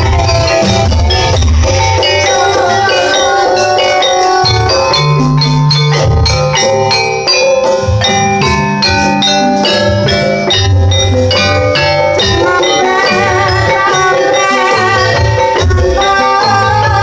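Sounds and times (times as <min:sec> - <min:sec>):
gamelan music: 0:00.0 - 0:17.0.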